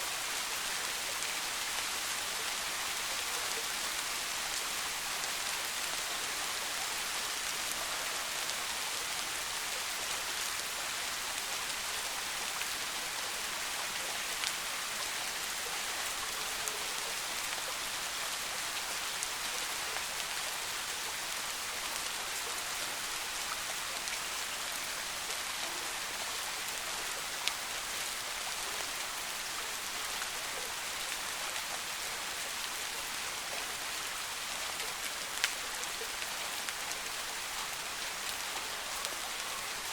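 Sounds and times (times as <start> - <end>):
soft rain hissing: 0.0 - 39.9.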